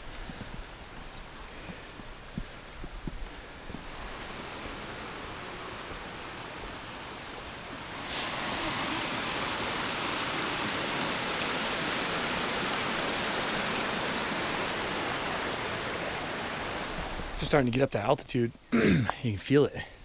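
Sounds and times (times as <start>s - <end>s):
creek water rushing over rocks: 0.0s - 18.0s.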